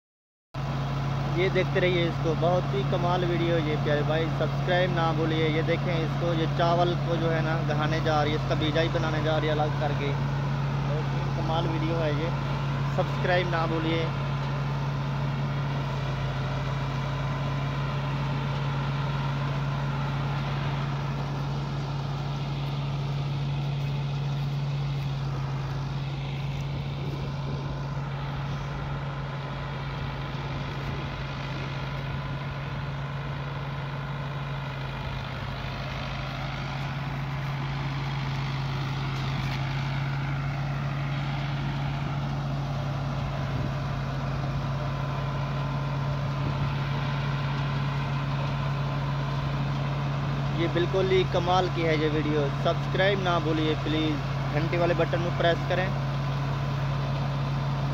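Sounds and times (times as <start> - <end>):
rice thresher running: 0.6 - 57.9
tractor engine droning: 0.6 - 57.9.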